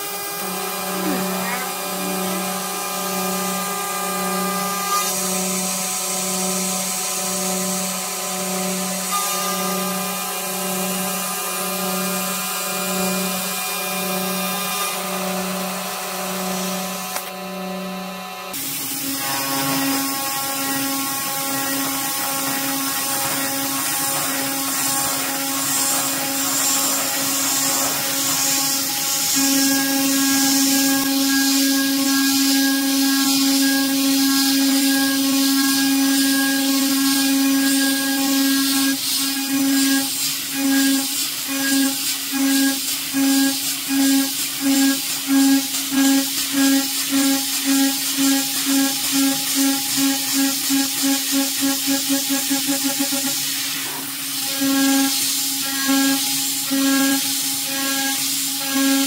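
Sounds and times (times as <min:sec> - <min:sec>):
router spindle cutting whine: 0:00.0 - 0:59.0.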